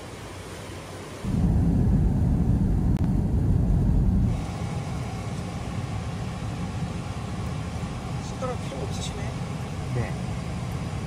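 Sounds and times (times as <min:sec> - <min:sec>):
car road and wind noise: 0:00.0 - 0:11.0
hum of stationary car: 0:00.0 - 0:11.0.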